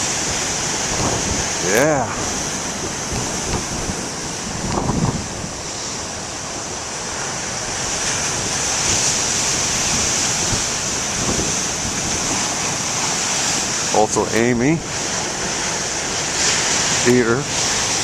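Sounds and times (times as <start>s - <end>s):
ocean waves breaking on shore: 0.0s - 18.0s
wind on microphone: 0.0s - 18.0s.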